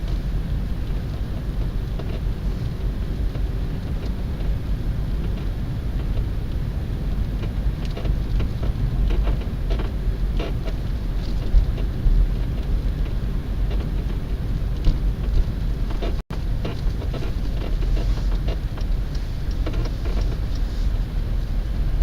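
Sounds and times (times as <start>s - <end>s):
car suspension creaking: 0.0s - 22.0s
low vehicle rumble: 0.0s - 22.0s.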